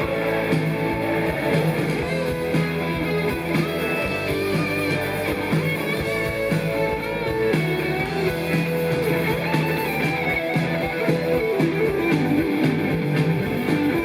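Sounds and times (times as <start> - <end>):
bass and drums: 0.0 - 14.0
electric guitar melody: 0.0 - 14.0.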